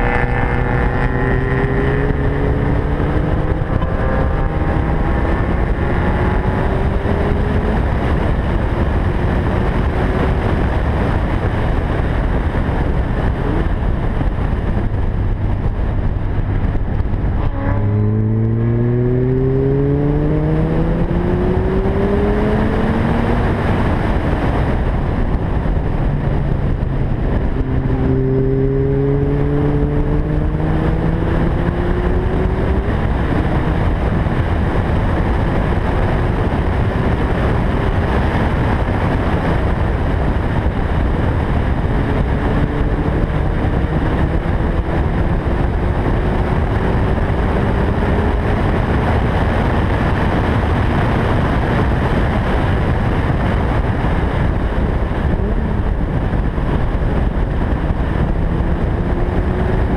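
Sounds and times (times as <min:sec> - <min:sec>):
car engine accelerating: 0:00.0 - 0:59.9
wind and tyre noise: 0:00.0 - 0:59.9.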